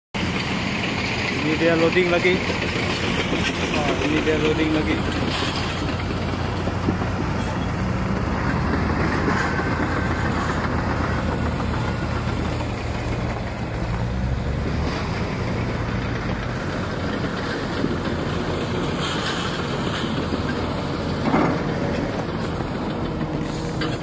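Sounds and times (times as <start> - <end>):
heavy diesel engines running: 0.2 - 24.0.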